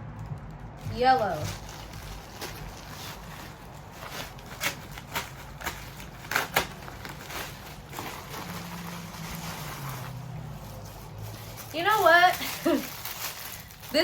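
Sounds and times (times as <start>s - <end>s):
sharp plastic crackles: 0.0s - 14.0s
plastic packaging crinkling: 0.1s - 14.0s.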